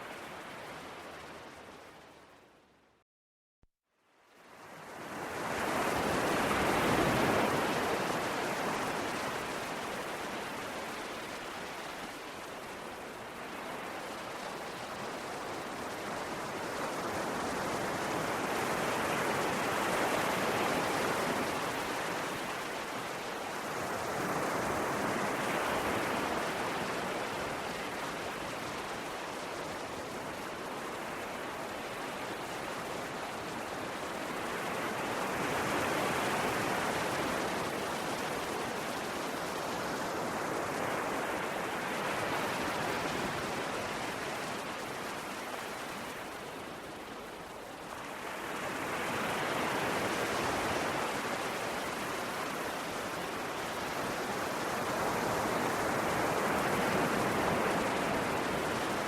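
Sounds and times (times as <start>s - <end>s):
ocean waves washing on shore: 0.0s - 2.5s, 4.3s - 59.0s.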